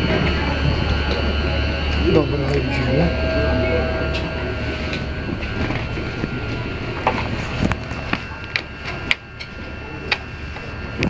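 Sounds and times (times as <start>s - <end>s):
train rumble with high whine: 0.0s - 11.0s.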